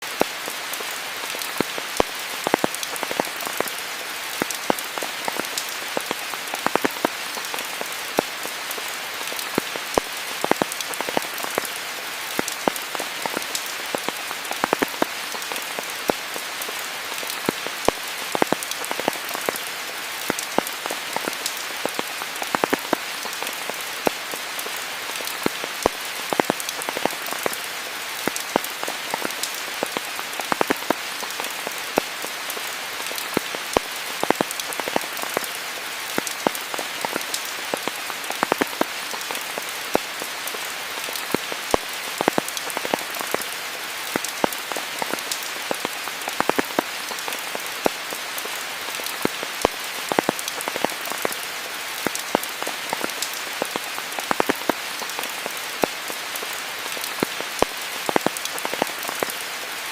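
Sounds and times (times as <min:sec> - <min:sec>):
raindrops pattering close by: 0:00.0 - 0:59.9
steady rain falling: 0:00.0 - 0:59.9.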